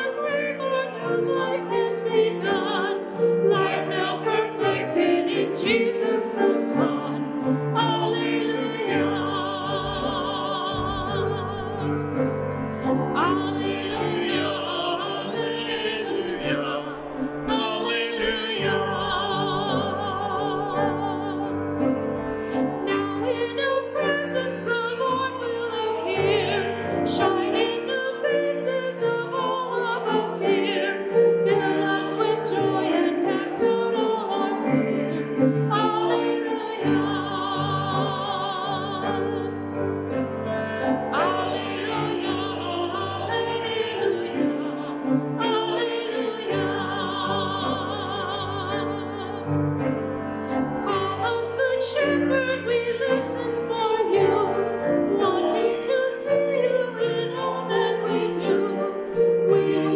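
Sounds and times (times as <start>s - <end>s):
person singing with vibrato: 0.0s - 39.7s, 40.7s - 49.7s
keyboard accompaniment: 0.0s - 59.9s.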